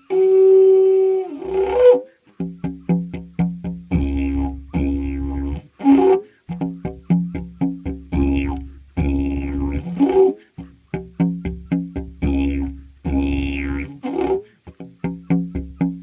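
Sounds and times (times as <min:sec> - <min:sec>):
didgeridoo drone: 0:01.4 - 0:16.0.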